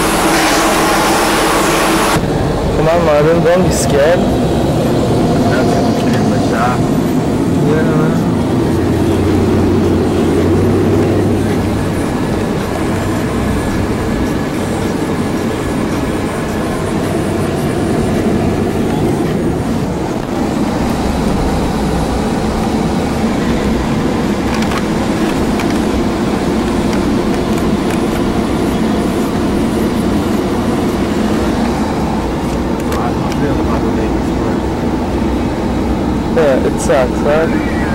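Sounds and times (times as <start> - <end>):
engine and road rumble: 0.0 - 37.9.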